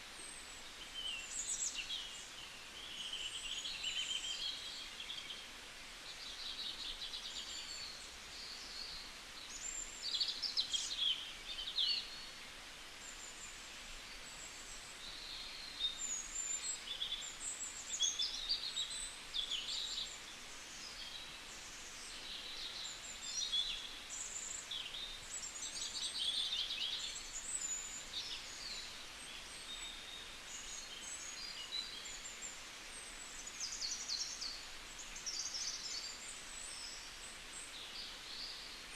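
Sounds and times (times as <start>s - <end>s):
faint outdoor background: 0.0s - 38.9s
small birds chirping: 0.0s - 38.9s.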